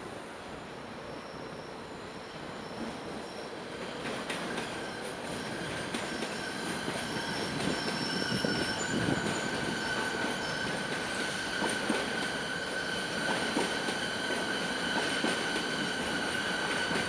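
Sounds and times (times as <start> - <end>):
train wheels squealing: 0.5 - 17.0
train rumble: 2.4 - 17.0.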